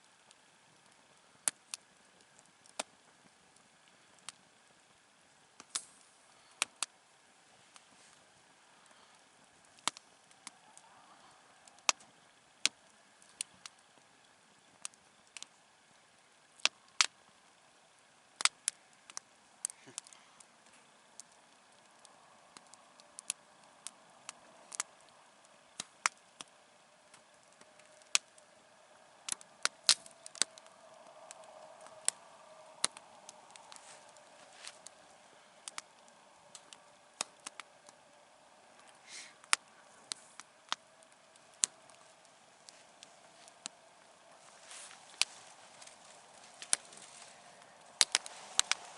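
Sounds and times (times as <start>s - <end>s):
campfire crackling: 0.0s - 48.9s
faint steady hiss: 0.0s - 48.9s.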